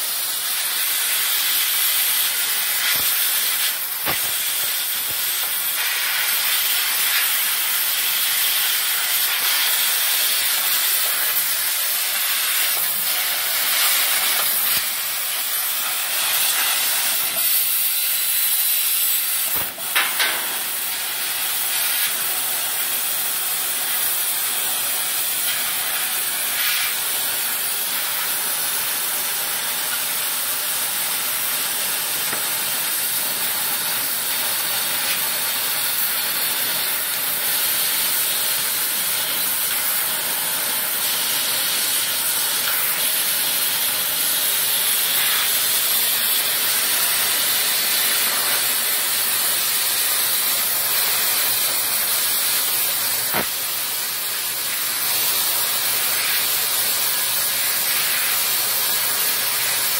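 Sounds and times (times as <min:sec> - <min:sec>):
laser cutter hissing: 0:00.0 - 0:59.9.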